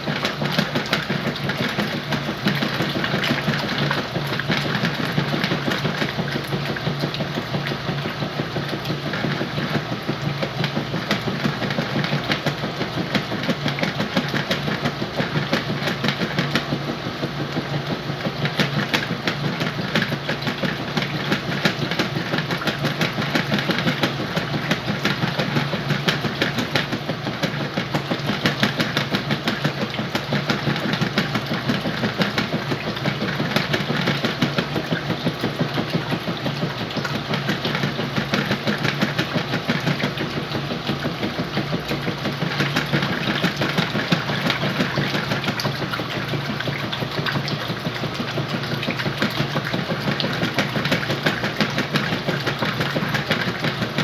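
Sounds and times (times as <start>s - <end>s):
washing machine humming and rattling: 0.0s - 54.0s.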